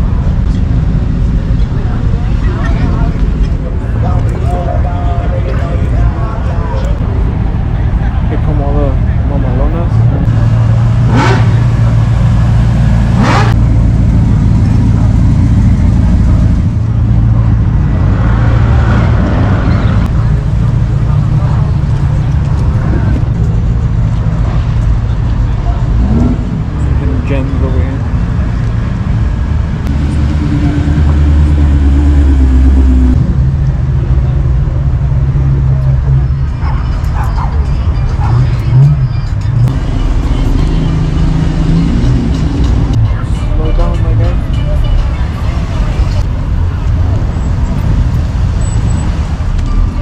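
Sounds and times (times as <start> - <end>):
car engine idling and revving: 0.0 - 50.0.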